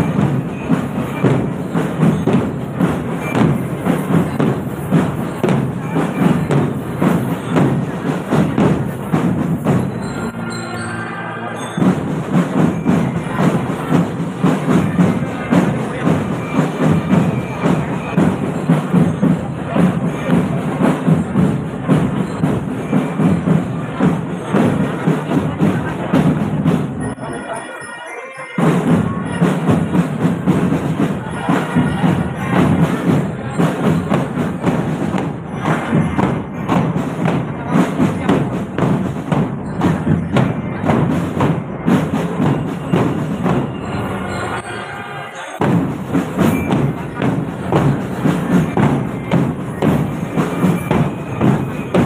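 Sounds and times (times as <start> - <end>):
drum band marching drumming: 0.0 - 10.4, 11.8 - 27.1, 28.6 - 44.4, 45.6 - 52.0.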